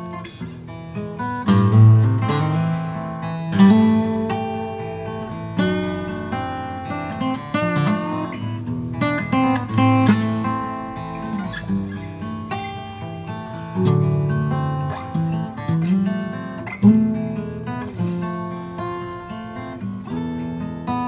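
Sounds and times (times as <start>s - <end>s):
acoustic guitar picked chords: 0.0s - 21.0s
strummed guitar chords: 0.0s - 21.0s.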